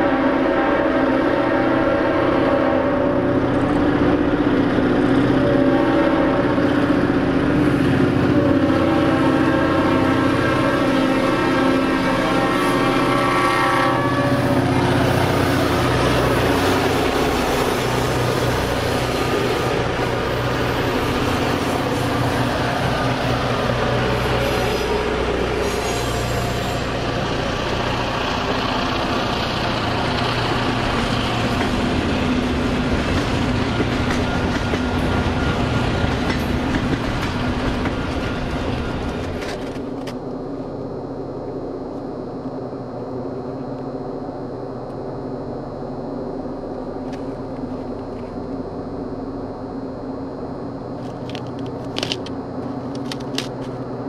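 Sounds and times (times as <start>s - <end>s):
diesel engine drone: 0.0s - 54.0s
freight train rumbling: 0.0s - 54.0s.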